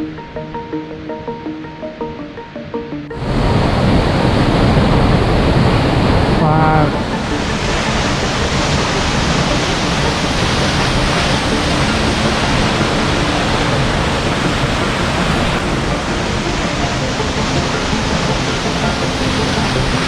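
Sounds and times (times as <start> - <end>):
waterfall rushing: 3.1 - 20.0.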